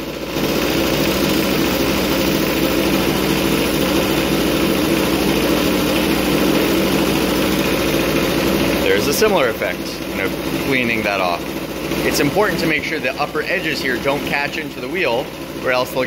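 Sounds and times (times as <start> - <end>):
grinder motor hum: 0.0 - 16.0
wire wheel scrubbing metal: 0.0 - 16.0.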